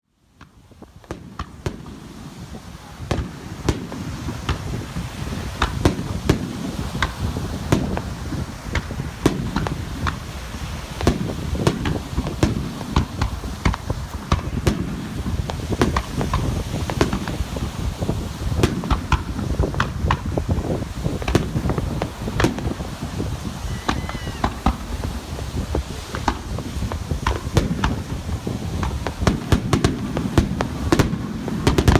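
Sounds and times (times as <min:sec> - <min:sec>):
fireworks sharp cracks: 0:00.3 - 0:31.9
low rumble of bursting shells: 0:03.0 - 0:31.9.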